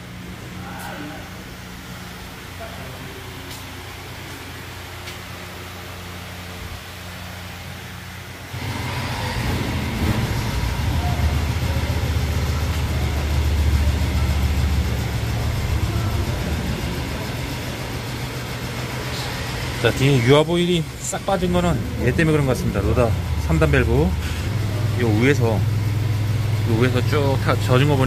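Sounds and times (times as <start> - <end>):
diesel tractor engine running: 1.4 - 28.0.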